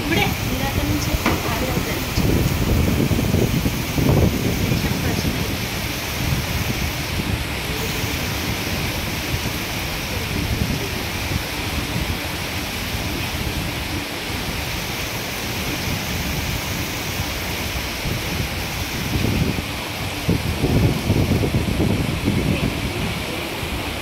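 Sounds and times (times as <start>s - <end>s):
floodwater rushing down a street: 0.0s - 24.0s.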